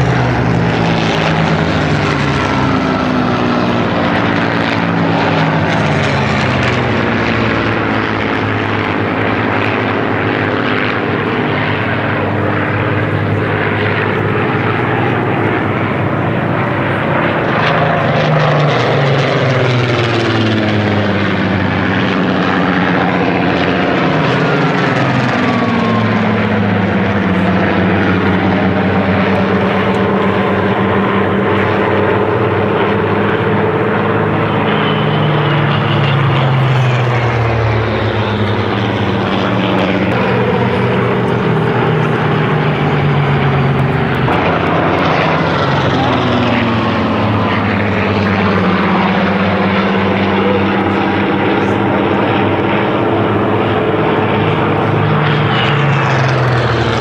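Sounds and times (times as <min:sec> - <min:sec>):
piston aircraft engines droning: 0:00.0 - 0:57.0.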